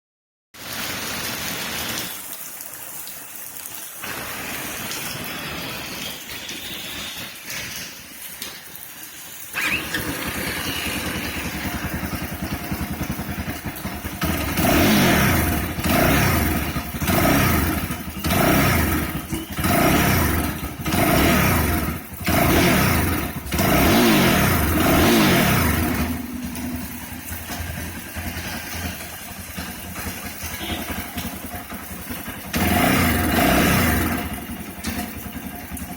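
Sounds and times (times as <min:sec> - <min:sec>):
motorcycle engine idling and revving: 0:04.0 - 0:35.9.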